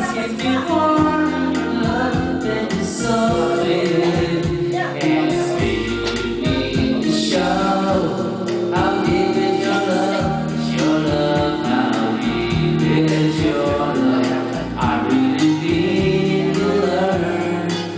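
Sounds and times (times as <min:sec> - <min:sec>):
music with singing over beat: 0:00.0 - 0:17.9.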